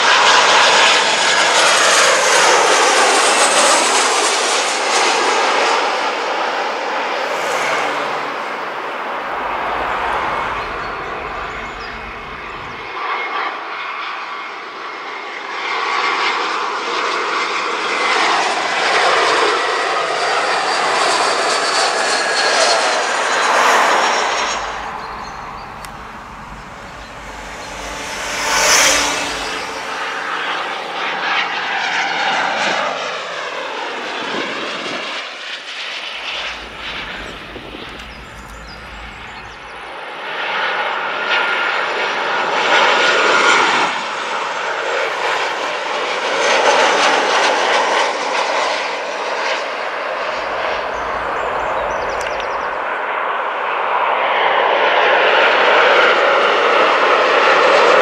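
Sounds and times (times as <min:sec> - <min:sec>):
falling engine whine: 0:00.0 - 0:13.2, 0:18.0 - 0:35.2, 0:35.8 - 0:54.0
jet aircraft passing overhead: 0:00.0 - 0:58.0.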